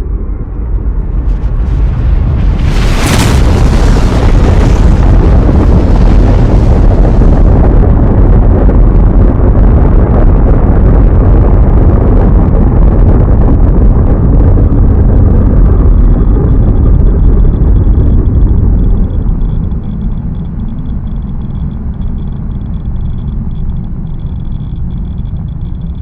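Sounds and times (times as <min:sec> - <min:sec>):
deep explosion rumble: 0:00.0 - 0:26.0.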